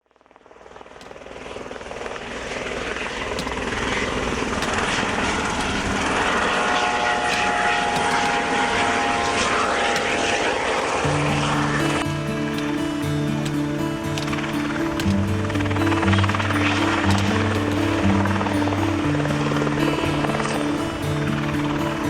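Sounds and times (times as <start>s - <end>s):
helicopter running: 0.0s - 22.0s
steady turbine whine: 0.0s - 22.0s.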